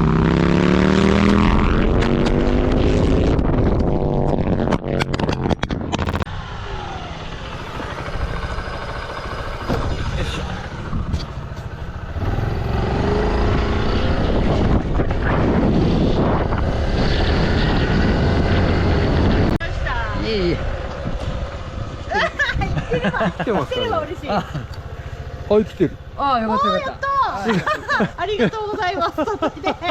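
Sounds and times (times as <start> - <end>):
motorcycle engines racing: 0.0 - 29.9.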